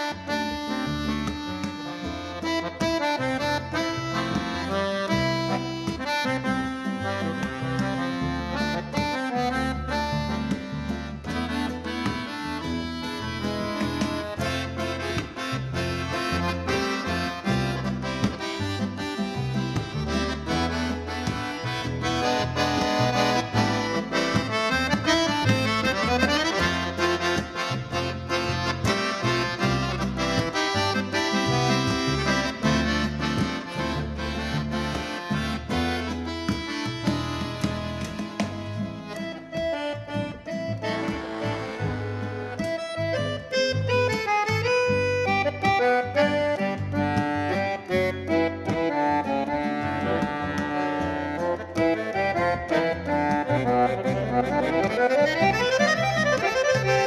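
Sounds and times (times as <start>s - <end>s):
button accordion melody: 0.0s - 57.0s.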